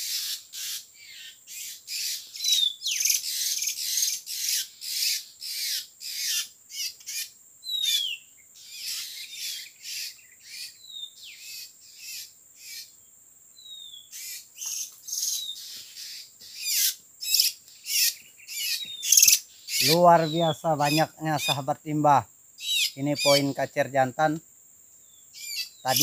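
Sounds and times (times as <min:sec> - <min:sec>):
birds rasping calls: 0:00.0 - 0:13.0, 0:13.8 - 0:24.0, 0:25.3 - 0:26.0.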